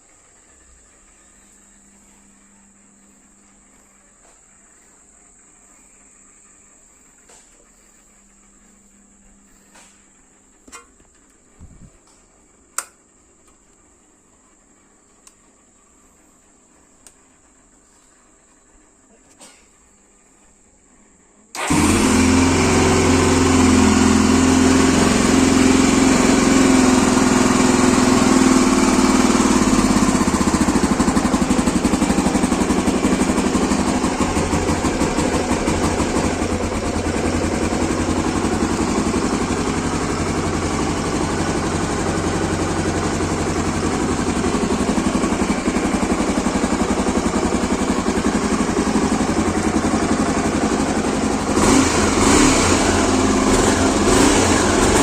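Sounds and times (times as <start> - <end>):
motorcycle engine idling: 0.0 - 19.1, 21.4 - 55.0.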